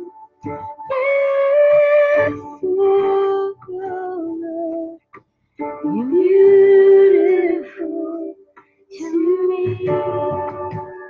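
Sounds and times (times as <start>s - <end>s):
woman singing a slow song: 0.7s - 5.0s, 5.6s - 11.0s.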